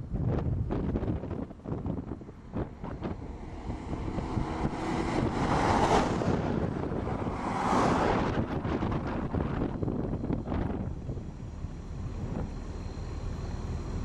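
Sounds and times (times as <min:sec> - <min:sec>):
strong wind buffeting microphone: 0:00.0 - 0:12.7.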